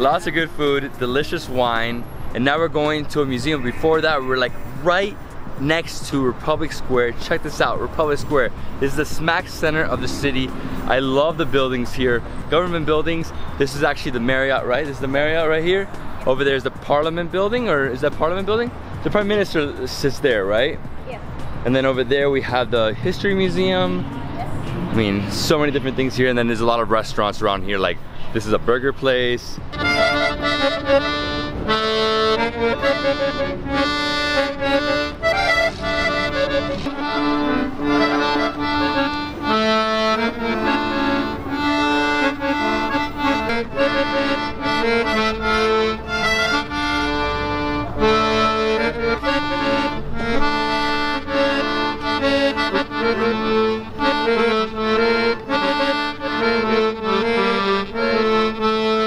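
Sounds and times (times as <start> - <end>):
accordion playing a melody: 0.0 - 26.9, 29.6 - 59.0.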